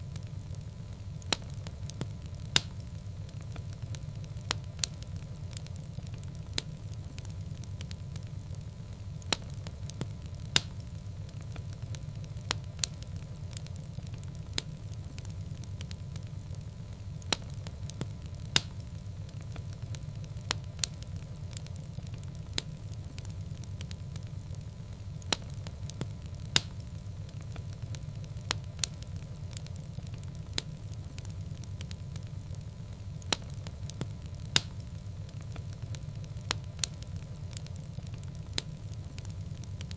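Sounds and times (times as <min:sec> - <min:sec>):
fire burning in fireplace: 0:00.0 - 0:39.9
fire crackles and pops: 0:00.0 - 0:39.9.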